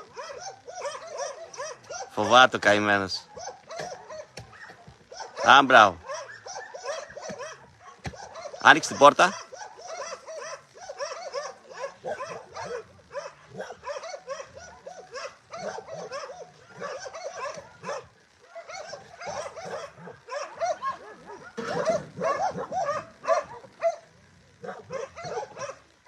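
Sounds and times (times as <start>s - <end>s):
dogs barking and yipping: 0.0s - 26.0s.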